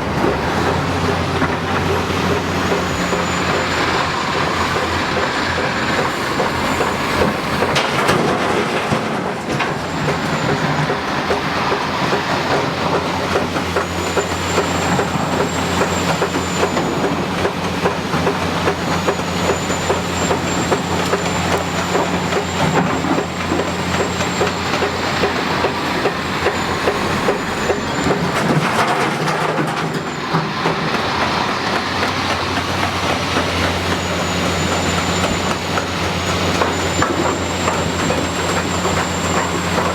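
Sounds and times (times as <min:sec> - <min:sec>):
diesel engine running: 0:00.0 - 0:39.9
metallic clanking of tracks: 0:00.0 - 0:39.9.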